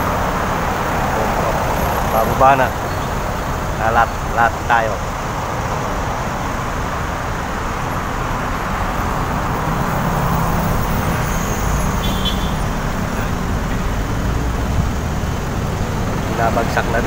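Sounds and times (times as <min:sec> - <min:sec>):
road traffic noise: 0:00.0 - 0:17.0
vehicle engine low hum: 0:00.0 - 0:17.0.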